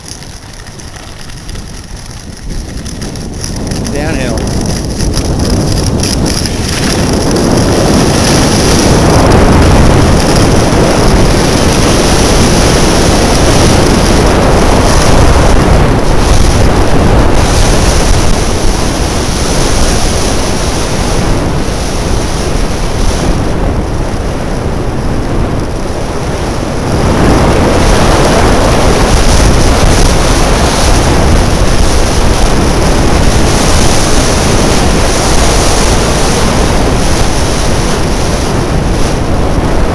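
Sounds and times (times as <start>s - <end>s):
skis running over snow: 0.0s - 39.9s
wind buffeting microphone: 0.0s - 39.9s.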